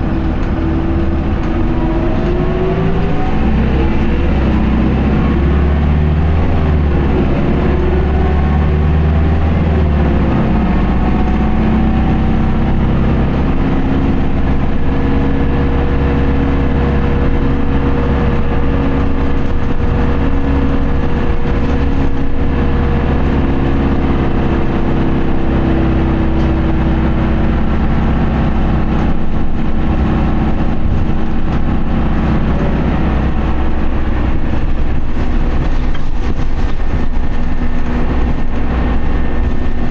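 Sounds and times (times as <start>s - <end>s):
bus diesel engine from inside: 0.0s - 39.9s.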